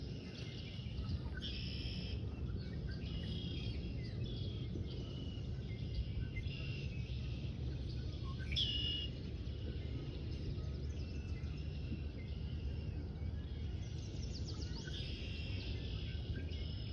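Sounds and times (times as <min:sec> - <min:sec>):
low outdoor rumble: 0:00.0 - 0:16.9
small birds chirping and singing: 0:00.0 - 0:16.9.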